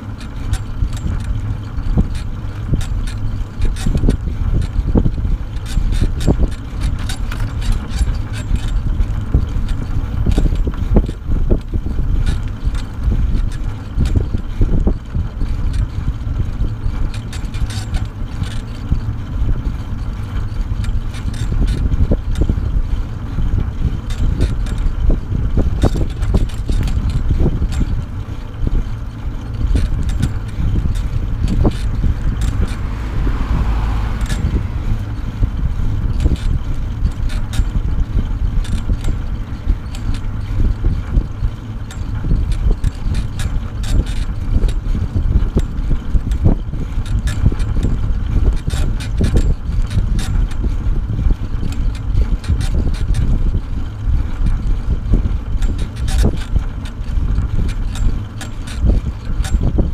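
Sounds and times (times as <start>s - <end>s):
trailer rattling and knocking: 0.0s - 59.9s
trailer wheels rolling on asphalt: 0.0s - 59.9s
wind buffeting microphone: 0.0s - 59.9s.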